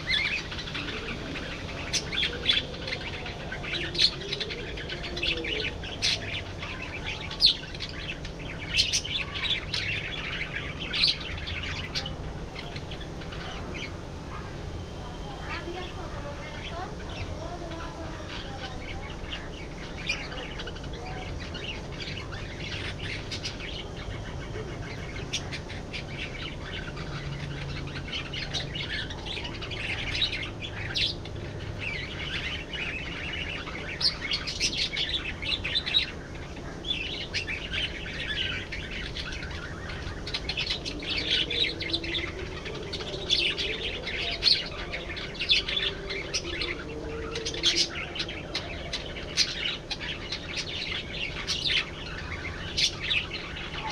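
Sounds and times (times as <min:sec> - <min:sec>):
budgerigars chattering: 0:00.0 - 0:53.9.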